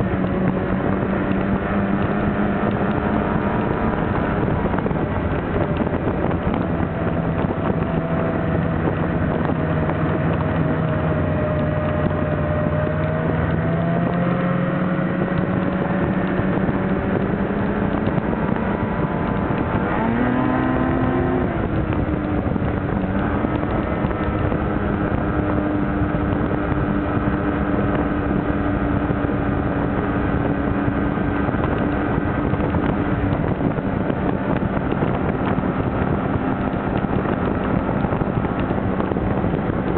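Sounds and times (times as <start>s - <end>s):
snowmobile engine running: 0.0s - 39.9s
wind buffeting microphone: 0.0s - 39.9s.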